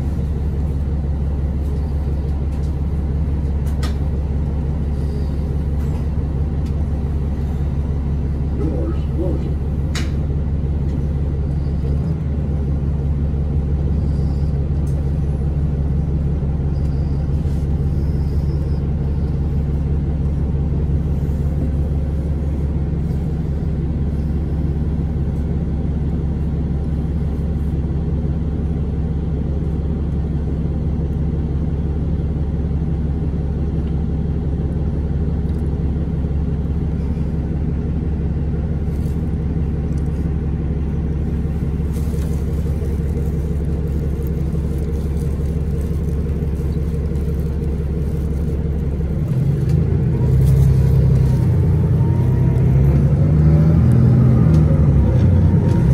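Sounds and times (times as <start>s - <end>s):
bus diesel engine droning: 0.0s - 55.9s.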